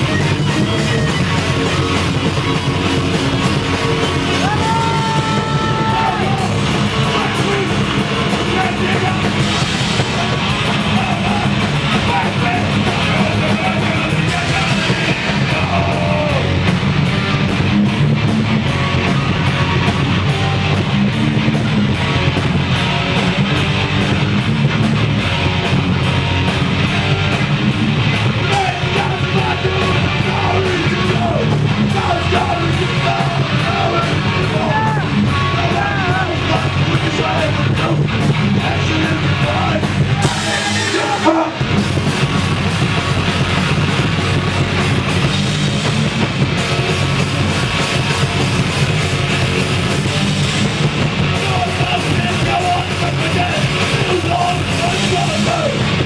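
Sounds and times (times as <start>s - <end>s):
distorted electric guitars: 0.0s - 56.0s
drum kit: 0.0s - 56.0s.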